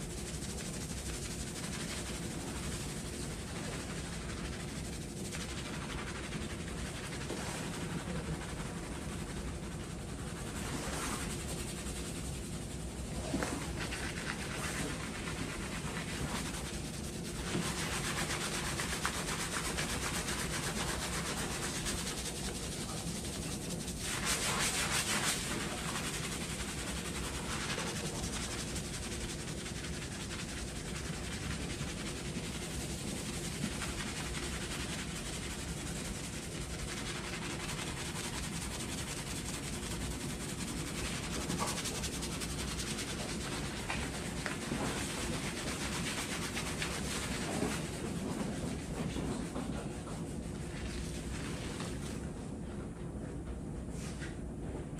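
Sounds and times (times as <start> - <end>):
hands scrubbing hair: 0.0 - 52.4.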